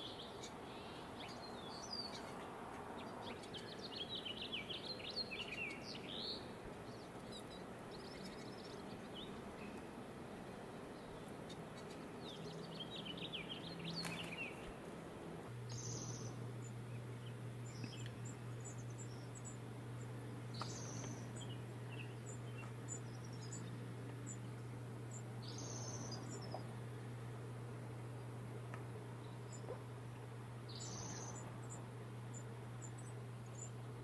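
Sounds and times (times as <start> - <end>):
falling birdsong phrase: 0.0 - 34.0
steady low hum: 0.0 - 34.0.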